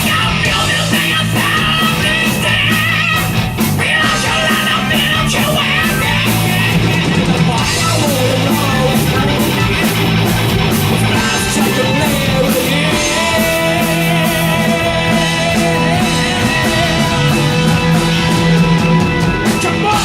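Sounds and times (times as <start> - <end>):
electric guitar lead bending: 0.0 - 20.0
hard rock band playing: 0.0 - 20.0.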